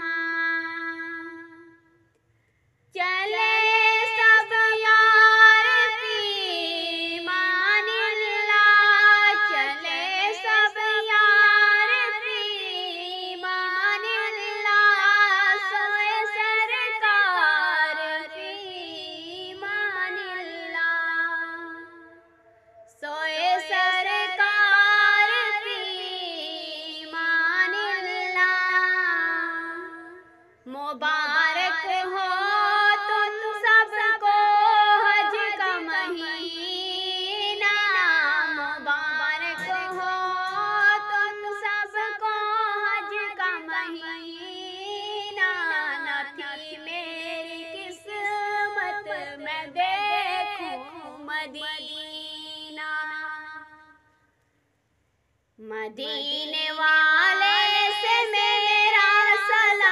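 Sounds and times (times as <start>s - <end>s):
person singing solo unaccompanied: 3.0s - 22.1s, 22.9s - 54.2s, 55.6s - 59.9s.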